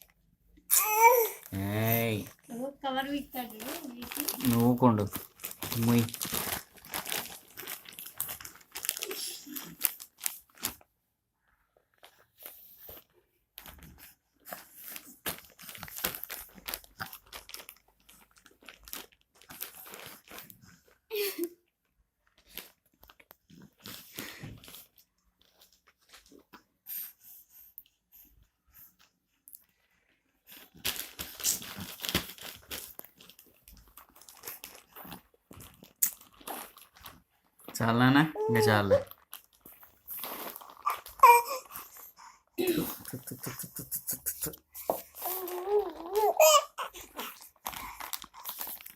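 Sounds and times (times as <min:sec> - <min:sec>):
plastic bag crinkling: 0:00.7 - 0:10.8, 0:11.9 - 0:21.4, 0:22.2 - 0:26.4, 0:29.8 - 0:43.5, 0:44.9 - 0:48.9.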